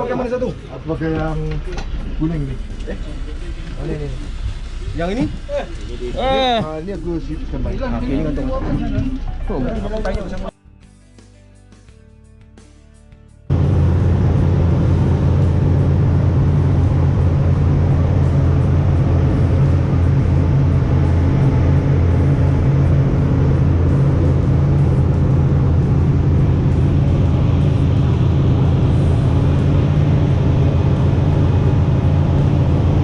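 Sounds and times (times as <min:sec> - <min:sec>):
water noise: 0:00.0 - 0:09.8, 0:13.5 - 0:33.0
boat engine running: 0:00.0 - 0:10.5, 0:13.5 - 0:33.0
wind: 0:00.0 - 0:10.5, 0:13.5 - 0:33.0.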